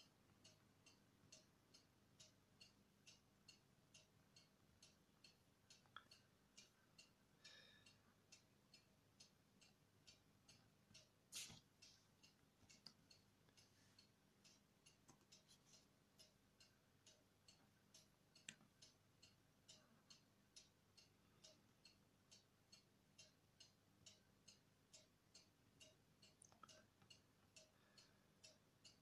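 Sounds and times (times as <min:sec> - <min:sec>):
faint regular ticking: 0:00.0 - 0:29.0.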